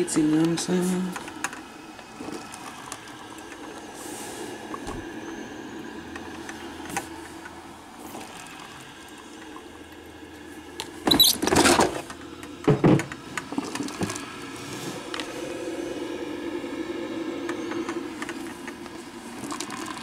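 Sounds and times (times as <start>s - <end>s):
coffee maker bubbling and hissing: 0.0s - 20.0s.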